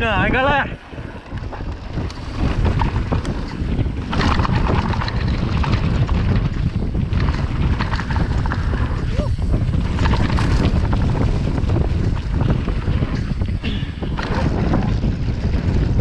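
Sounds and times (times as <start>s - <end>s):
bike rattling over rough ground: 0.0s - 16.0s
wind buffeting microphone: 0.0s - 16.0s.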